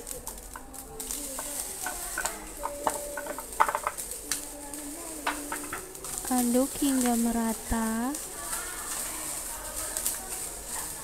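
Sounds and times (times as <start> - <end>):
faint sizzle: 0.0 - 11.0
spatula scraping and knocking wok: 0.1 - 11.0.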